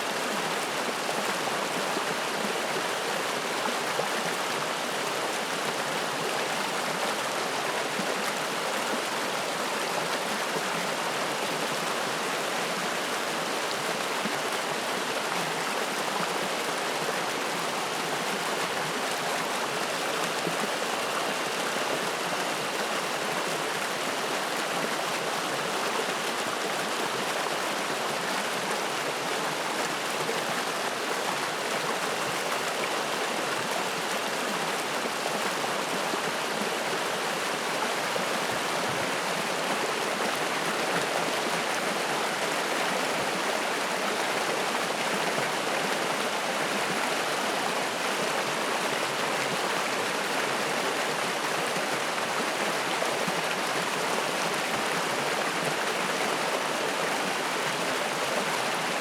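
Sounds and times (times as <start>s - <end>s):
stream flowing and splashing: 0.0s - 59.0s.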